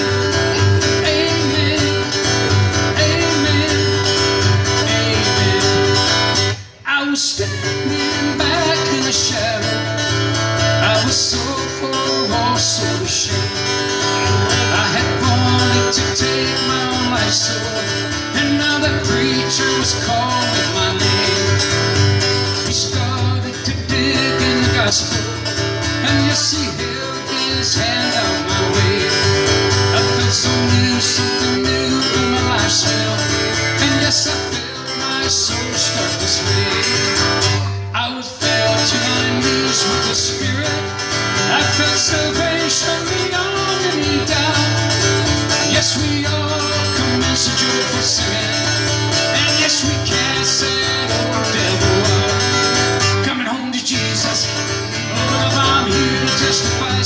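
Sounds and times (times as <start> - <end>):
guitars strumming bluegrass: 0.0 - 57.0.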